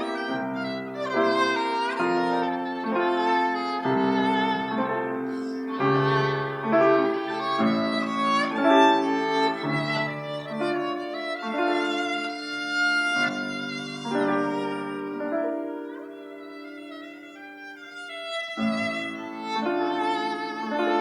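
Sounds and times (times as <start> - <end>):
piano accompaniment: 0.0 - 21.0
violin melody with vibrato: 0.0 - 21.0.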